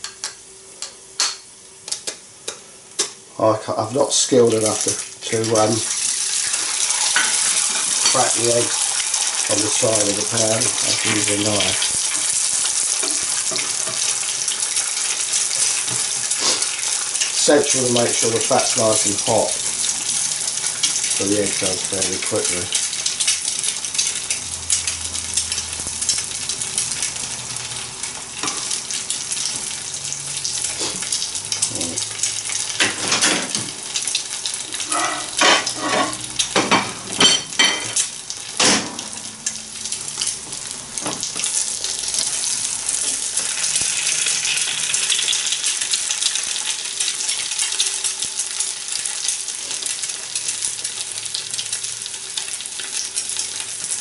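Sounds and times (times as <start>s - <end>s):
egg sizzling in frying pan: 0.0s - 54.0s.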